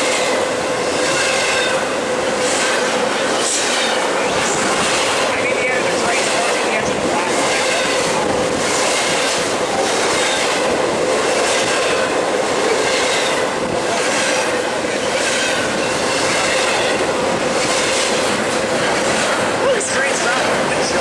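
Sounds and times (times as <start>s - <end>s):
train wheels clattering over joints: 0.0s - 21.0s.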